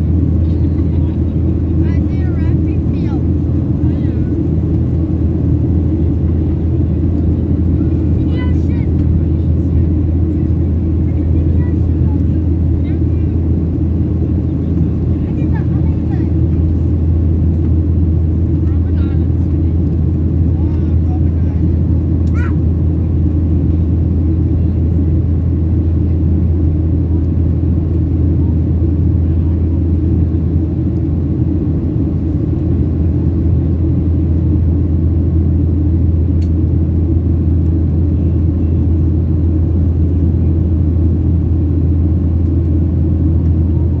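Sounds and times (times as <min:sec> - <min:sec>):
airplane cabin engine drone: 0:00.0 - 0:44.0.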